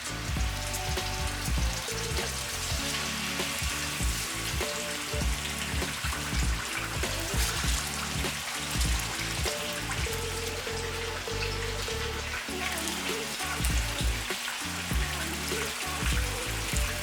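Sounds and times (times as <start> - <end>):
background music with beat: 0.0 - 17.0
chicken sizzling in oil: 0.0 - 17.0.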